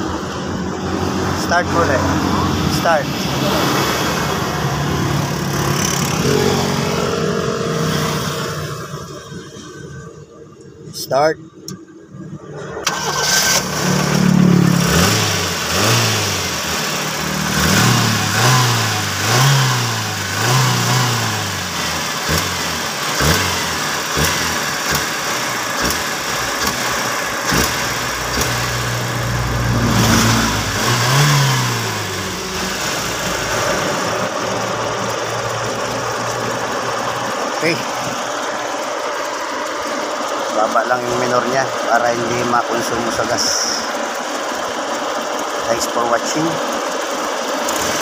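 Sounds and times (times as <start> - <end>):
car engine revving and idling: 0.0 - 48.0.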